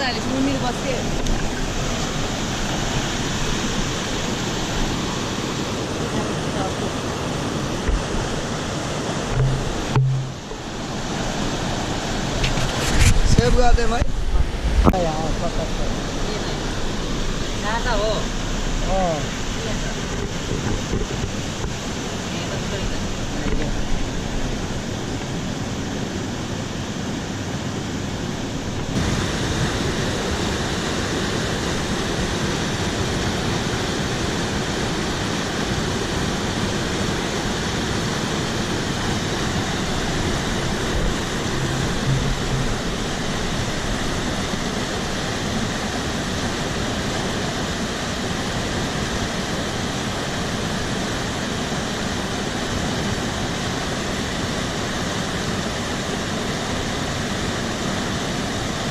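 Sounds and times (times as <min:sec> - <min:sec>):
rushing mountain stream: 0:00.0 - 0:58.9.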